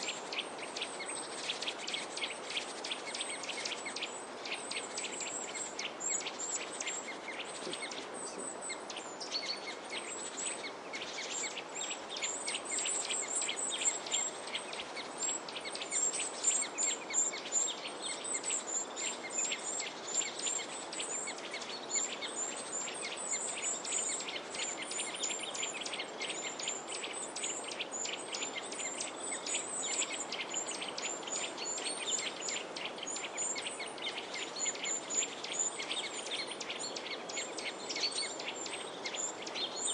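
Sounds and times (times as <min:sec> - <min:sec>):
songbirds chirping in chorus: 0:00.0 - 0:39.9
steady background hiss: 0:00.0 - 0:39.9.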